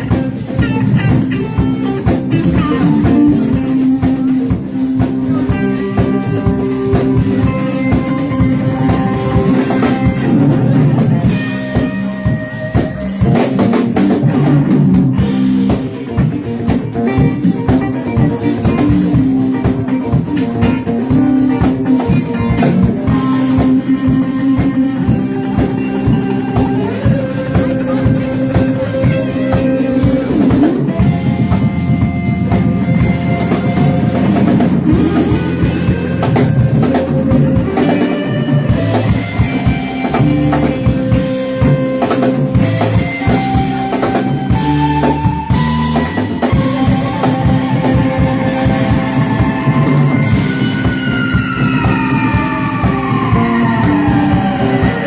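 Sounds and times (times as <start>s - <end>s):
bass guitar: 0.0s - 55.0s
drum kit: 0.0s - 55.0s
electric guitar lead lines: 0.0s - 55.0s.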